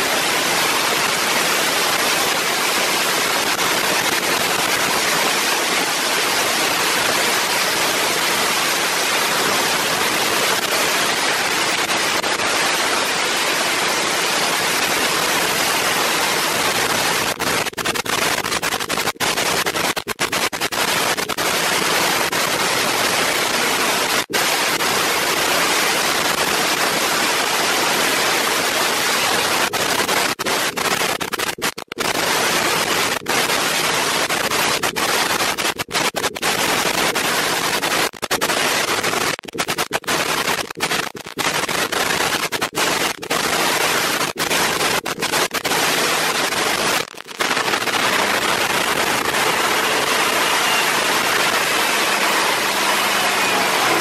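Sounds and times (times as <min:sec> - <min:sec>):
distorted engine crackle: 0:00.0 - 0:54.0.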